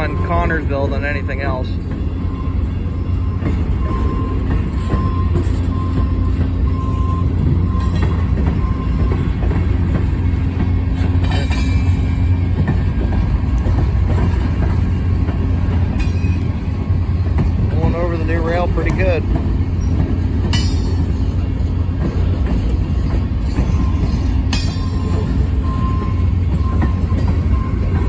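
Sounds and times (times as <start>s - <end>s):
freight train rumbling past: 0.0s - 28.0s
wheels clicking over rail joints: 3.4s - 28.0s.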